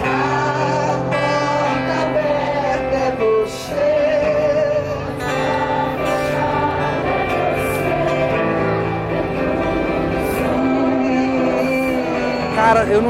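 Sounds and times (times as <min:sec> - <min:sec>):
gospel music: 0:00.0 - 0:13.0
person singing: 0:00.0 - 0:13.0
sustained instrumental chords: 0:00.0 - 0:13.0.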